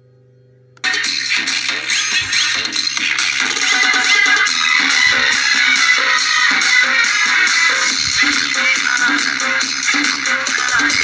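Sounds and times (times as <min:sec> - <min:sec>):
thin dance music on loudspeaker: 0:00.8 - 0:11.0.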